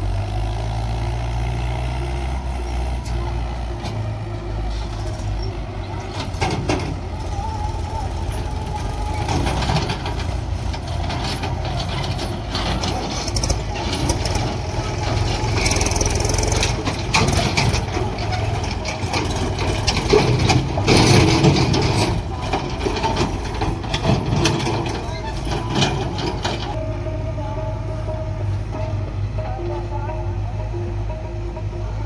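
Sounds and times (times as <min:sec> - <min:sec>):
diesel engine under load: 0:00.0 - 0:32.0
digger rattling: 0:00.0 - 0:32.0.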